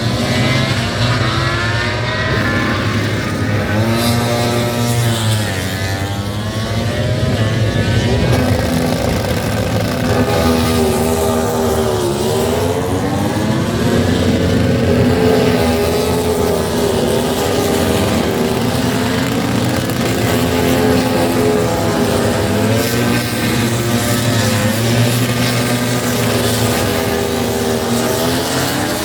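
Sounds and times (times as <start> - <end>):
loud engine running: 0.0 - 29.0.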